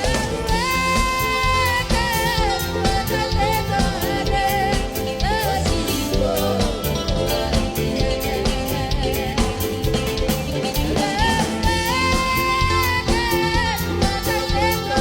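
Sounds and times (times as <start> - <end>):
band music: 0.0 - 15.0
steady drum beat: 0.0 - 15.0.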